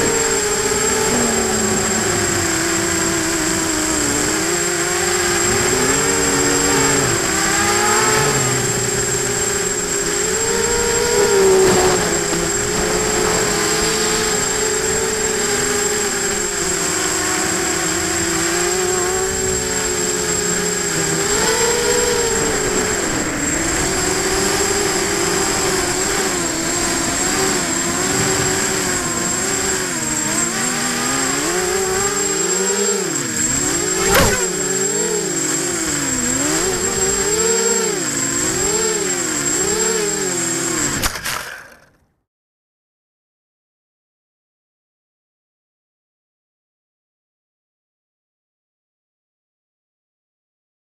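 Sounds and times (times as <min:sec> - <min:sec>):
drone motors and propellers whining: 0:00.0 - 0:42.0.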